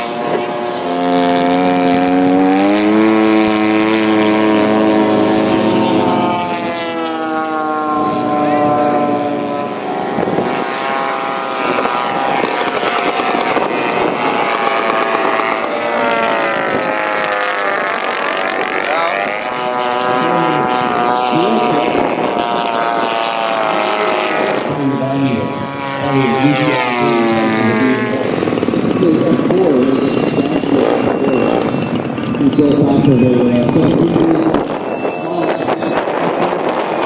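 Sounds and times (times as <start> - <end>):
model plane propeller engines passing: 0.0 - 37.0.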